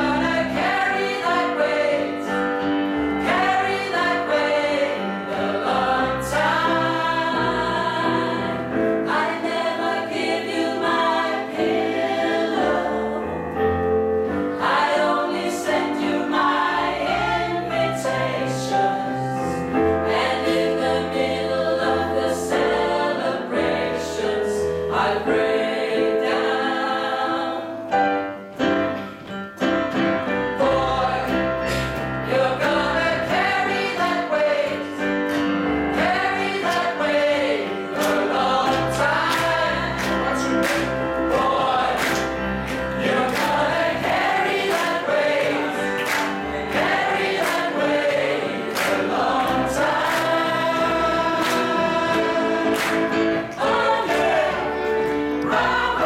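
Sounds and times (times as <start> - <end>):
a cappella ensemble singing: 0.0 - 28.5, 29.8 - 56.0.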